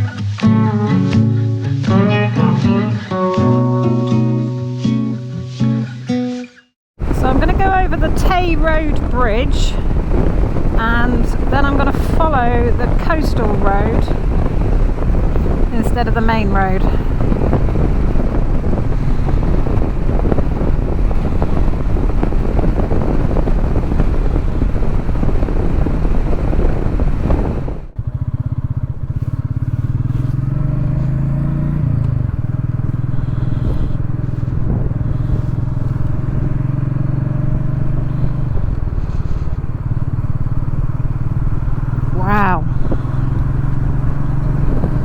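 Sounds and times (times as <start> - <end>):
heavy wind rush: 7.0 - 45.0
motorcycle engine running: 7.0 - 45.0.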